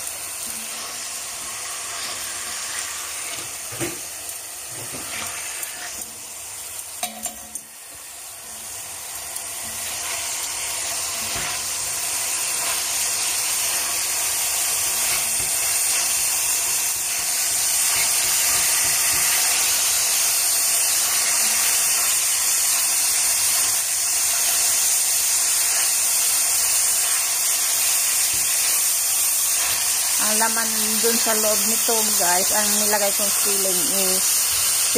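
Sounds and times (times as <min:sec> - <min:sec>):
chicken sizzling in hot oil: 0:00.0 - 0:34.9.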